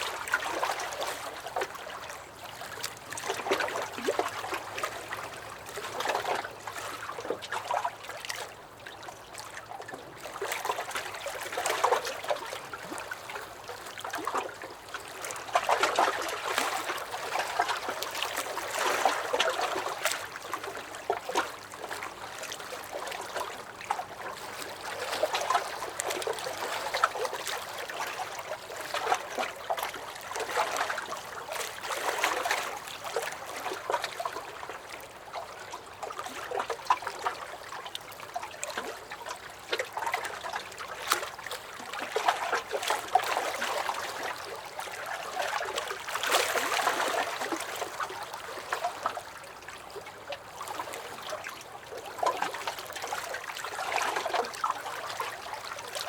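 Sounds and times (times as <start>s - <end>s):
small splashes and drips: 0.0s - 56.0s
waves lapping against a dock: 0.0s - 56.0s.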